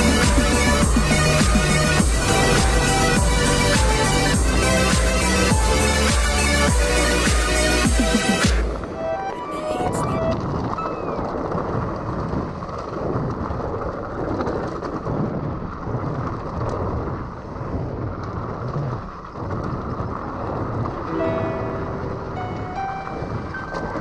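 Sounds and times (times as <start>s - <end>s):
wind buffeting microphone: 0.0s - 7.5s, 9.8s - 24.0s
bike rattling: 0.0s - 8.0s, 10.3s - 24.0s.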